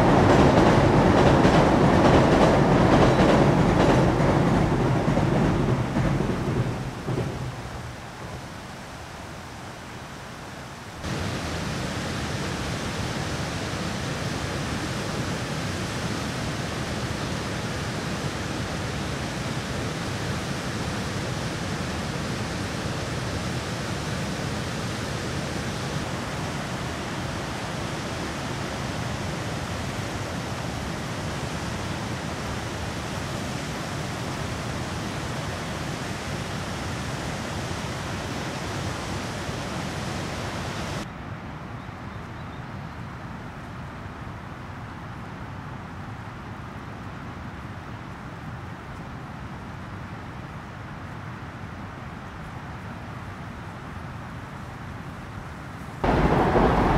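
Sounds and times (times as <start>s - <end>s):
steady rushing outdoor noise: 0.0s - 42.2s, 42.8s - 56.9s.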